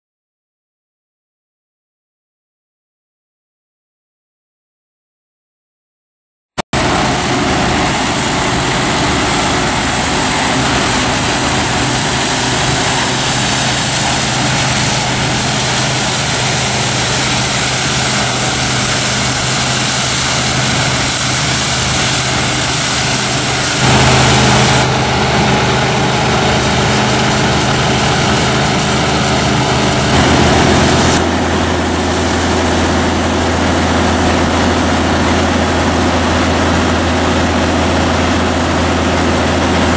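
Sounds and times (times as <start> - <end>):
combine harvester running: 6.8 - 39.9.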